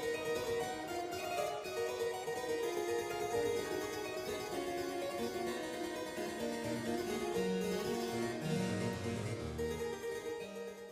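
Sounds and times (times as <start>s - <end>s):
harpsichord-like keyboard music: 0.0s - 10.9s.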